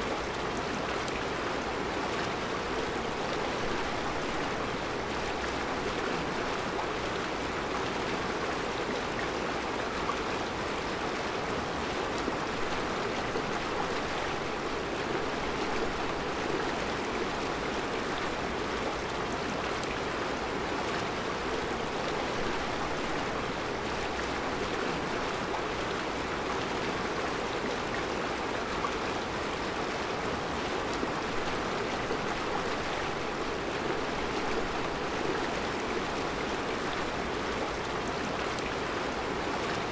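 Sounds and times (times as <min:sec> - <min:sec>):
river rushing and babbling: 0:00.0 - 0:39.9.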